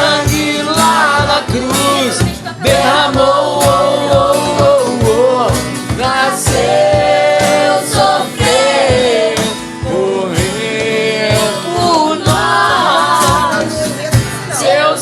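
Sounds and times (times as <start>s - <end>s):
acoustic guitar: 0.0s - 15.0s
cajon beat: 0.0s - 15.0s
voices singing worship song: 0.0s - 15.0s.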